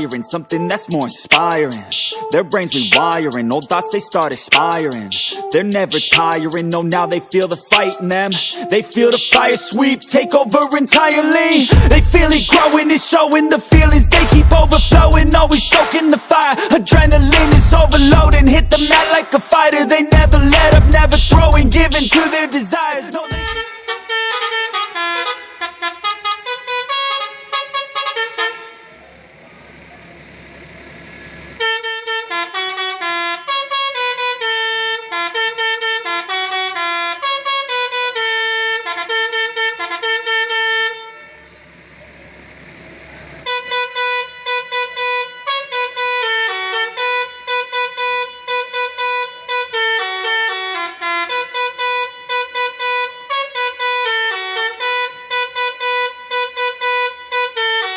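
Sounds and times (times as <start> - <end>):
musical bus horn tune: 0.0 - 29.2, 31.6 - 42.0, 43.4 - 57.9.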